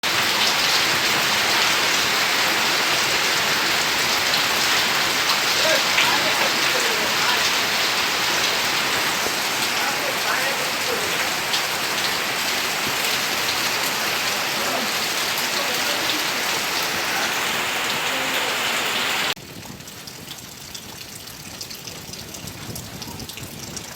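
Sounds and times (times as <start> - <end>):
rain on tin roof and water: 0.0 - 23.9.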